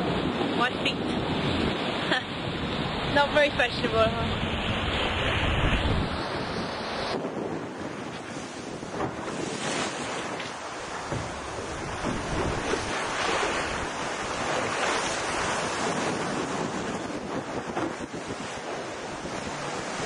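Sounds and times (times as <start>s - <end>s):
water rushing past hull: 0.0s - 20.0s
wind buffeting microphone: 0.0s - 20.0s.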